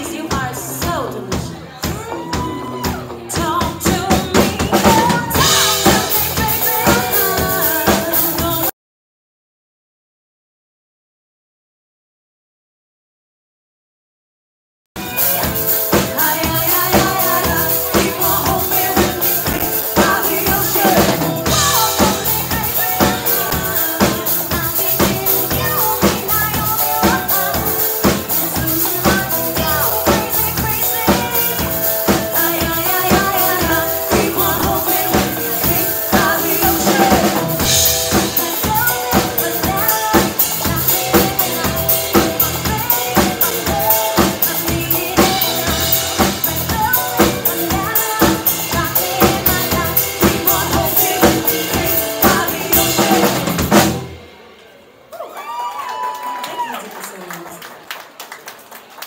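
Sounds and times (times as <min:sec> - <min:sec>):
live band playing: 0:00.0 - 0:08.7, 0:15.0 - 0:55.1.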